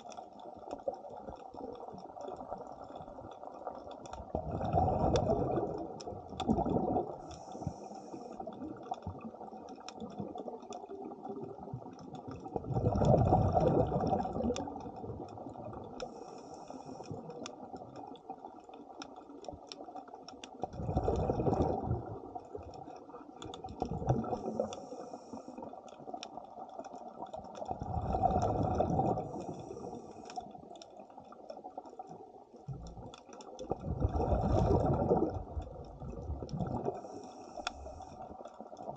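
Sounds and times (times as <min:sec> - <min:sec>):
exhaled bubbles underwater: 0:00.0 - 0:16.2, 0:16.8 - 0:38.9
faint clicks: 0:00.0 - 0:38.9.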